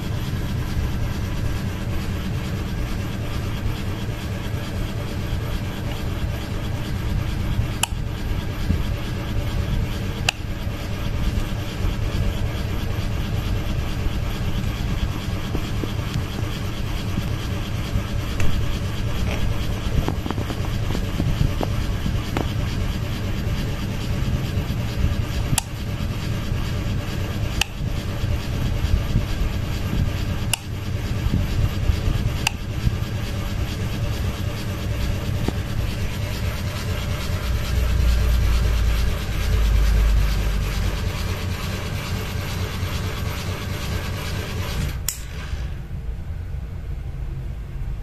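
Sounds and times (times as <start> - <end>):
low rumble: 0.0 - 42.8
ceiling fan rubbing whirr: 0.0 - 48.0.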